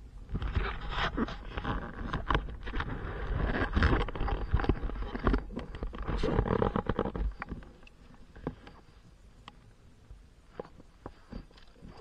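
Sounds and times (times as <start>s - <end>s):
microphone handling rumble and rustle: 0.0s - 12.0s.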